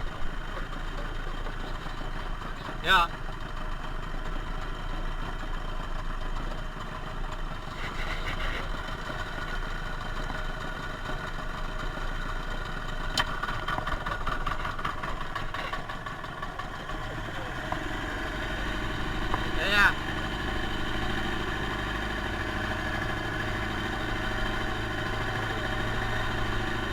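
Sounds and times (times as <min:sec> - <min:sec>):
small boat engine running: 0:00.0 - 0:26.9.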